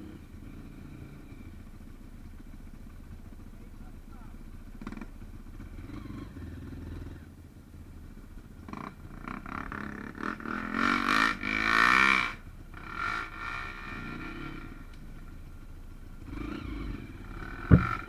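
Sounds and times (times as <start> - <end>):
motorcycle engine revving: 0.0 - 7.4, 8.0 - 18.0.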